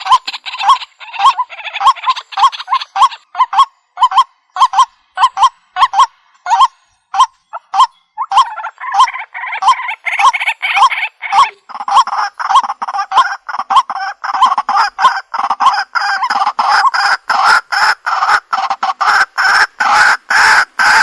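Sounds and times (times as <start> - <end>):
waterhen calling harsh notes: 0.0 - 21.0.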